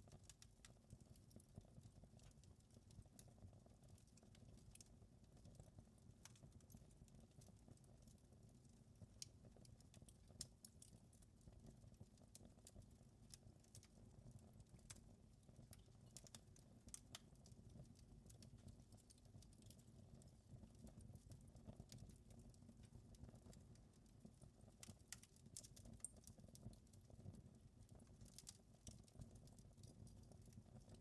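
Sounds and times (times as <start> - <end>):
low rumble of burning: 0.0 - 31.0
wood fire crackling: 0.1 - 31.0.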